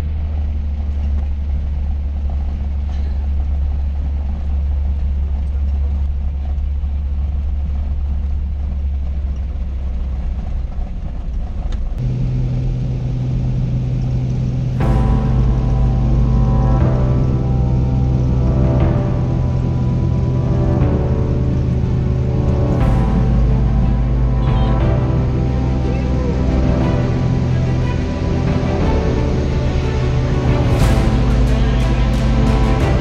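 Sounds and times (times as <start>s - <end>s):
propeller plane engine drone: 0.0s - 33.0s.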